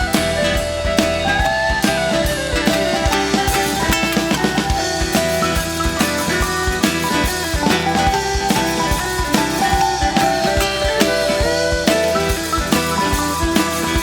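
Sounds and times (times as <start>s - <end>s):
bass guitar: 0.0s - 14.0s
drum kit beat: 0.0s - 14.0s
electric guitar: 0.0s - 14.0s.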